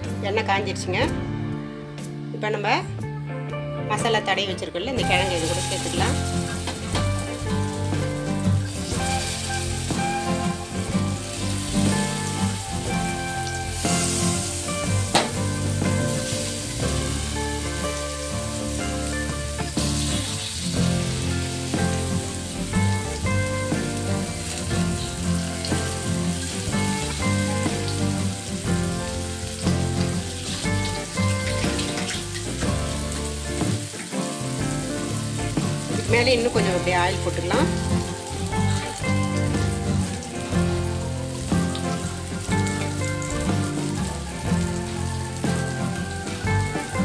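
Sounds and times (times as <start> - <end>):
background music: 0.0 - 47.0
oil sizzling in frying pan: 5.0 - 47.0.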